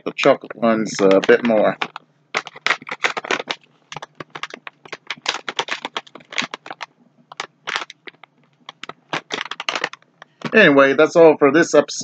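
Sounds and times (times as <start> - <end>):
plastic bag crinkling: 0.2 - 10.6.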